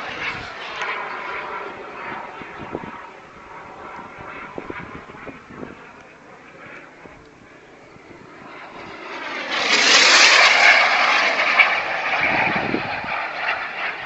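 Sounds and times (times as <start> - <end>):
model jet flying past: 0.0 - 14.0.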